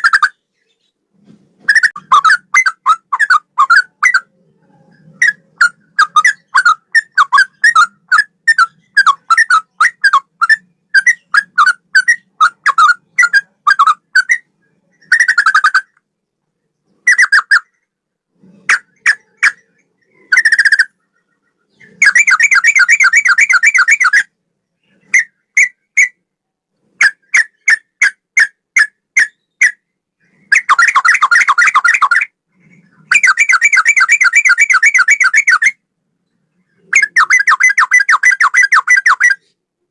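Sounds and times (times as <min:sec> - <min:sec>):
bulbul singing whistled trills: 0:01.7 - 0:16.0, 0:18.7 - 0:26.2, 0:29.2 - 0:39.6.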